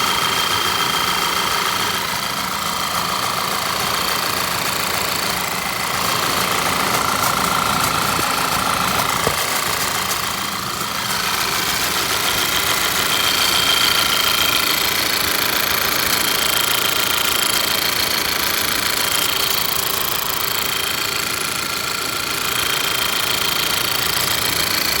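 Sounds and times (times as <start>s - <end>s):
car engine running: 0.0s - 25.0s
sharp engine tick: 3.2s - 25.0s.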